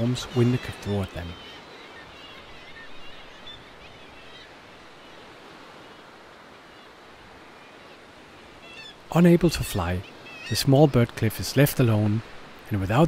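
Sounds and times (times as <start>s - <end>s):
high gull calls: 0.0s - 11.2s
sea surf: 0.0s - 13.0s.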